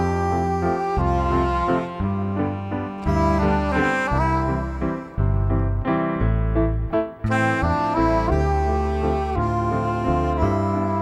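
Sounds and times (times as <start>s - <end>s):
melody over held bass notes: 0.0s - 11.0s.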